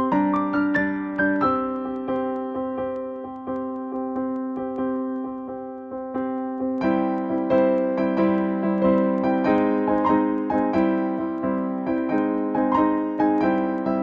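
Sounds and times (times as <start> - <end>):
electric piano music: 0.0 - 14.0.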